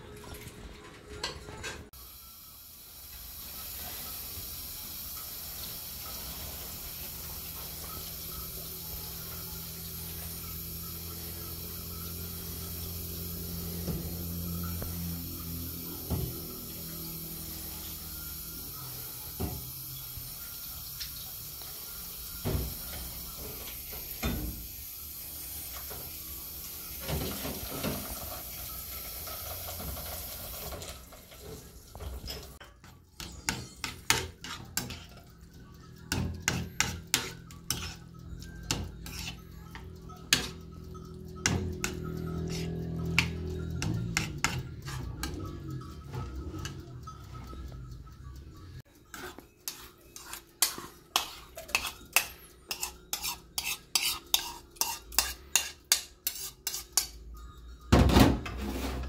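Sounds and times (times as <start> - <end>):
dishes and utensils clinking: 0.0 - 2.0, 5.1 - 59.0.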